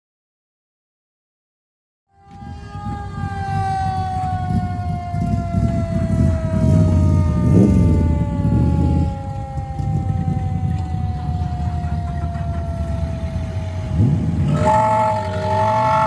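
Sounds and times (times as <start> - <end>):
siren tone sinking in pitch: 2.1 - 16.0
large vehicle engine rumble: 2.2 - 16.0.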